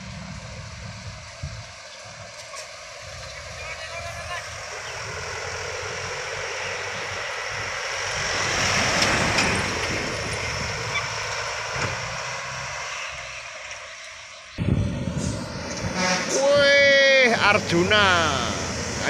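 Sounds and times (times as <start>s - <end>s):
trucks passing on a road: 0.0s - 19.0s.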